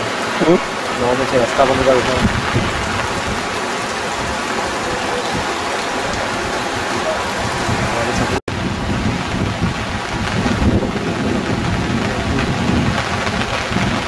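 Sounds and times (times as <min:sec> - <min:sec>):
rushing floodwater torrent: 0:00.0 - 0:14.0.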